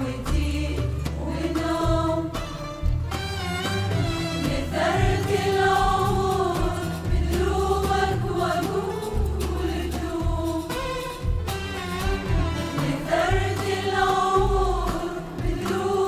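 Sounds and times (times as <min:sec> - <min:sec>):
women's choir singing: 0:00.0 - 0:02.6, 0:04.3 - 0:11.4, 0:12.6 - 0:16.0
violins: 0:00.0 - 0:09.2, 0:10.0 - 0:16.0
frame drums: 0:00.0 - 0:16.0.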